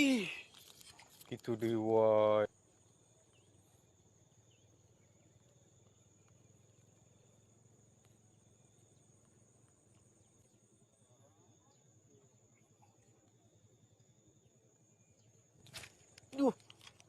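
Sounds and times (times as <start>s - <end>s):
crickets droning: 0.0s - 17.0s
faint insect ticks: 0.0s - 17.0s.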